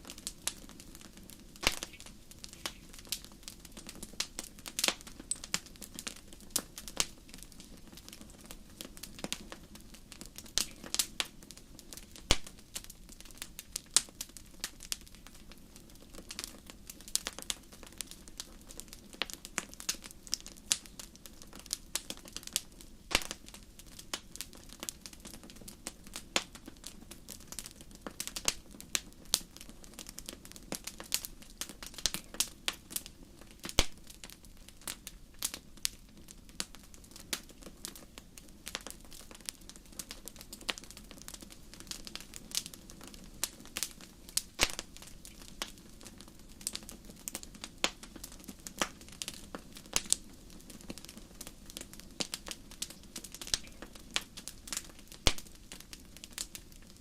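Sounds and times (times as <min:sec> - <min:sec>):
campfire crackling: 0:00.0 - 0:57.0
low rush of flames: 0:00.0 - 0:57.0.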